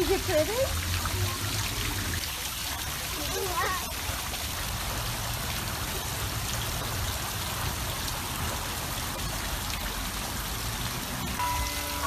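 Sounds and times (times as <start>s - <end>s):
water splashing down wall: 0.0s - 12.0s.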